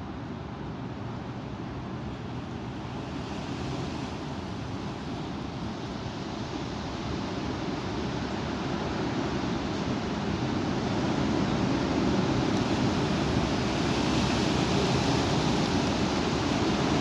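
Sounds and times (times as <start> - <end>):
strong wind on microphone: 3.1 - 17.0.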